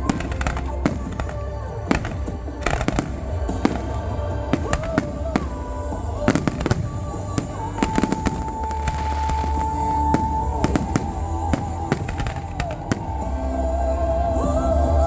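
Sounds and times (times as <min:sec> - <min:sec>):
fireworks bangs and crackles: 0:00.0 - 0:15.0
music with long held note: 0:00.0 - 0:15.0.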